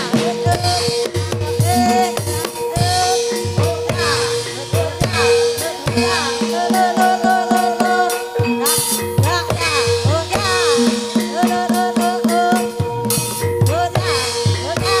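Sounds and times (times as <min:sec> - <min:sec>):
drums struck in steady rhythm: 0:00.0 - 0:15.0
ringing held pitched tones: 0:00.0 - 0:15.0.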